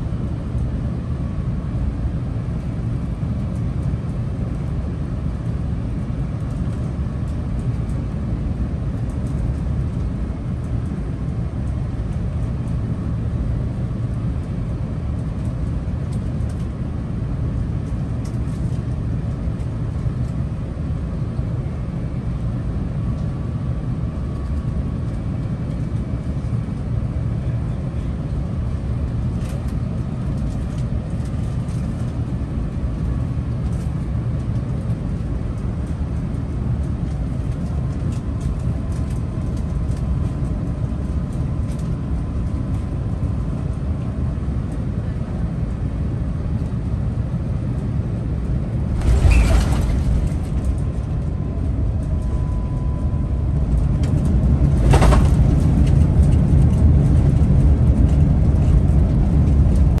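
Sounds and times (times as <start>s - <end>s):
airplane cabin rumble: 0.0s - 60.0s.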